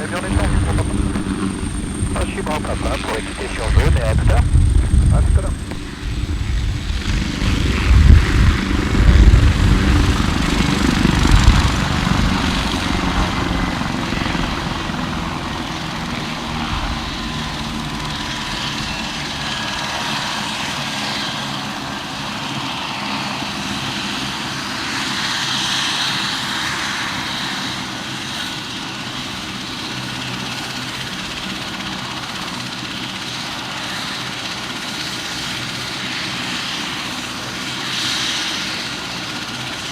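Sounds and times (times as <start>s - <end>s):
turbine whine: 0.0s - 32.3s
helicopter rotor throb: 0.0s - 39.9s.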